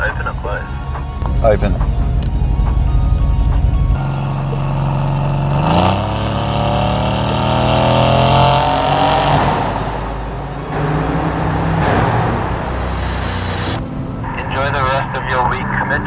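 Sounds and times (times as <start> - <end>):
car engine revving: 0.0 - 15.5.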